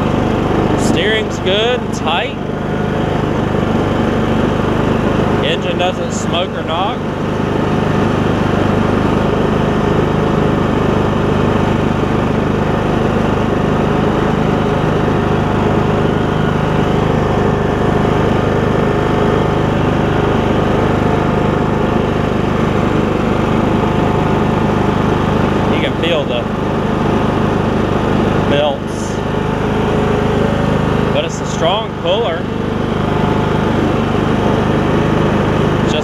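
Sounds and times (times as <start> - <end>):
lawn tractor engine running: 0.0 - 36.0.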